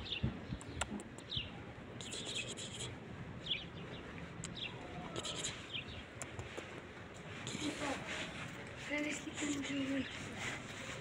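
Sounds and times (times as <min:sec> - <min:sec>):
small birds chirping: 0:00.0 - 0:06.8, 0:07.4 - 0:10.5.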